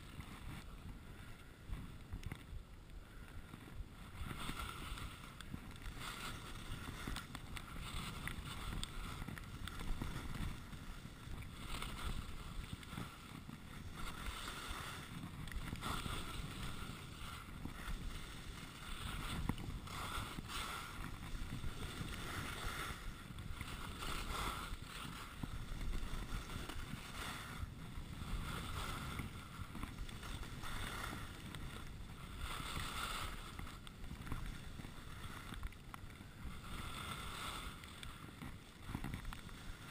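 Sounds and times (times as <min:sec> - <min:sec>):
skis scraping snow: 0:00.0 - 0:39.9
wind on microphone: 0:00.0 - 0:39.9.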